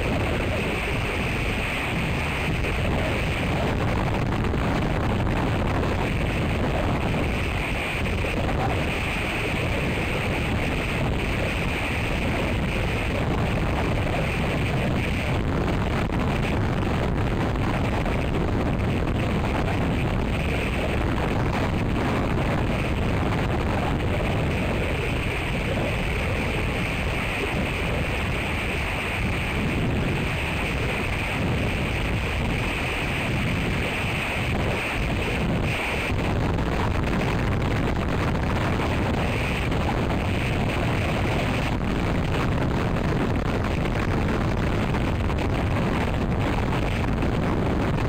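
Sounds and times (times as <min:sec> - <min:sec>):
storm wind rushing through pines: 0:00.0 - 0:48.0
wind buffeting microphone: 0:00.0 - 0:48.0.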